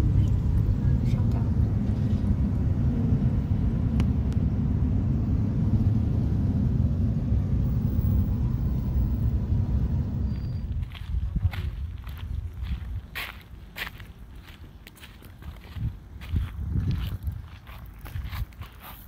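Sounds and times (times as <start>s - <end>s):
vehicle engine and tyres rumbling: 0.0s - 19.0s.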